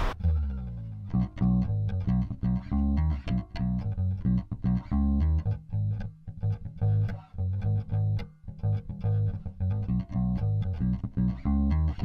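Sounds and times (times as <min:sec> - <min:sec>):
electric bass plucked notes: 0:00.0 - 0:12.0.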